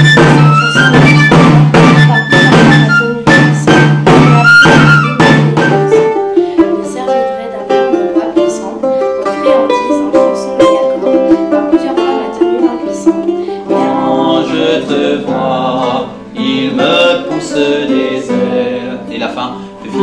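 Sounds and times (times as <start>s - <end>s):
voices singing: 0.0s - 5.8s, 9.4s - 20.0s
plucked guitar melody: 0.0s - 20.0s.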